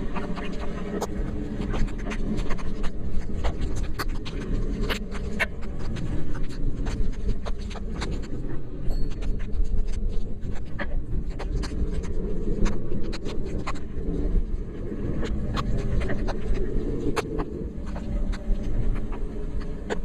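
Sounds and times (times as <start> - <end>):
low rumble of movement: 0.0 - 20.0.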